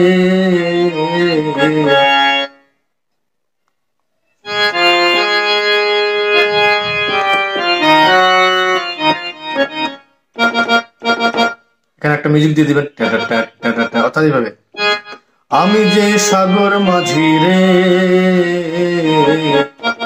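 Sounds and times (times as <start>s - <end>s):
harmonium melody: 0.0s - 3.2s, 4.3s - 20.0s.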